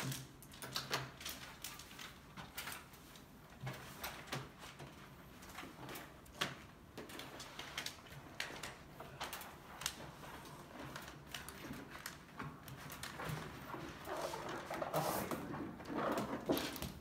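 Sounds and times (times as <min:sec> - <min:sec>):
plastic film crackling and rustling: 0:00.0 - 0:17.0.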